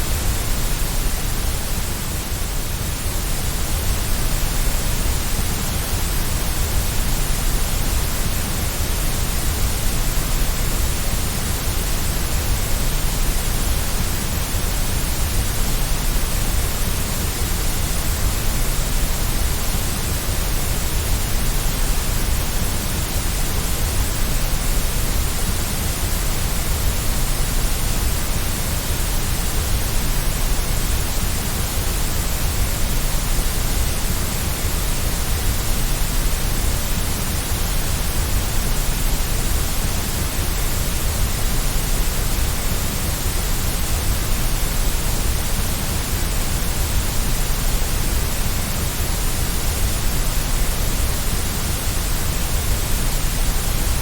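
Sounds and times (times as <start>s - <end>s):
steady white noise: 0.0s - 54.0s.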